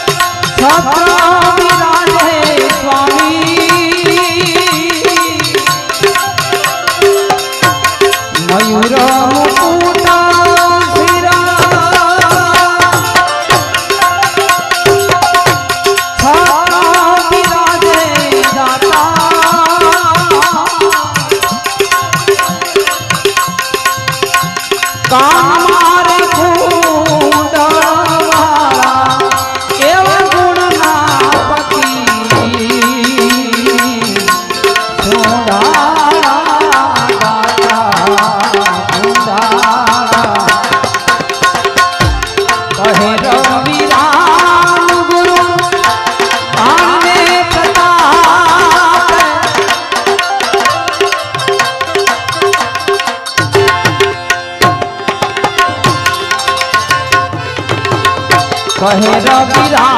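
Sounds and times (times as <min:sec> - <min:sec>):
ornamented melody line: 0:00.0 - 0:59.9
tabla rhythm: 0:00.0 - 0:59.9.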